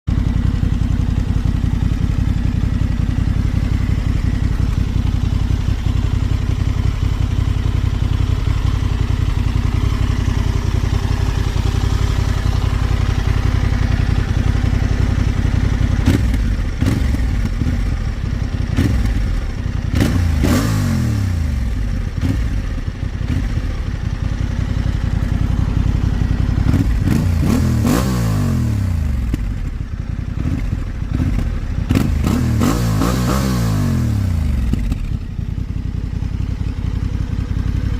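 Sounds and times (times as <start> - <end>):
motorcycle engine revving: 0.1 - 37.9.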